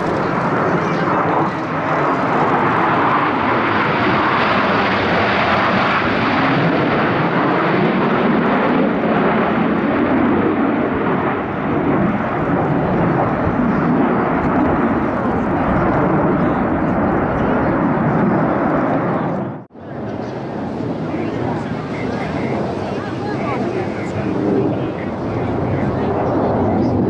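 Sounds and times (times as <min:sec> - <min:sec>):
jet aircraft flying over: 0:00.0 - 0:27.0.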